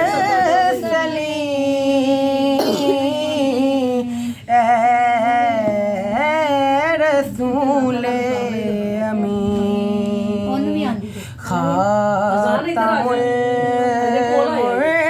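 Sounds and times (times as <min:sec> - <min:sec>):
unaccompanied devotional singing: 0:00.0 - 0:15.0.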